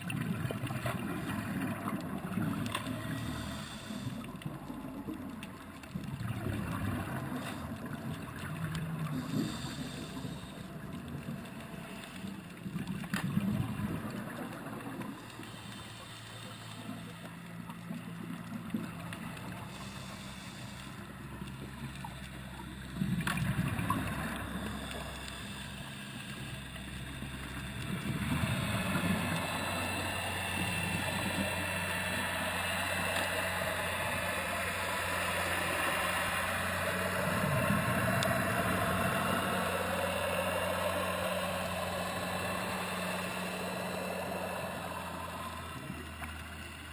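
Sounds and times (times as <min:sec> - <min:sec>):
steady low underwater hum: 0:00.0 - 0:46.9
underwater bubbles gurgling: 0:00.0 - 0:46.9.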